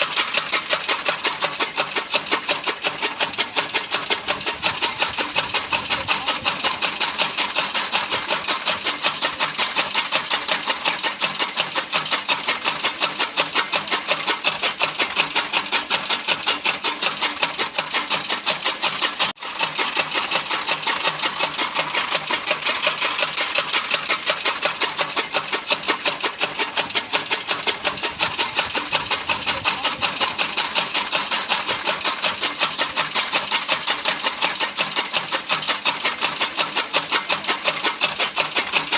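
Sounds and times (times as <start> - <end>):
chaff cutter blades chopping: 0.0 - 38.9.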